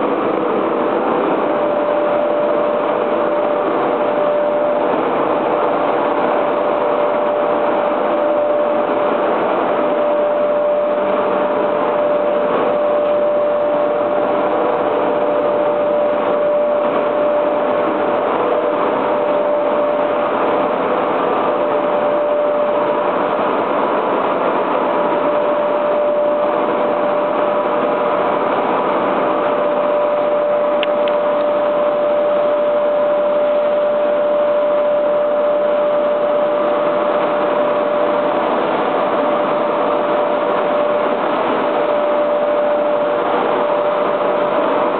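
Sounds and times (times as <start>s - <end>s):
constant high whine: 0.0s - 44.9s
machinery running: 0.0s - 44.9s.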